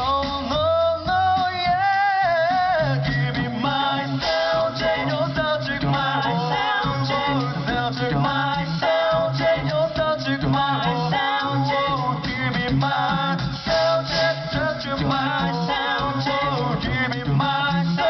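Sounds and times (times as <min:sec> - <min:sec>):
sung bass line: 0:00.0 - 0:18.0
vocal group singing in harmony: 0:01.3 - 0:18.0.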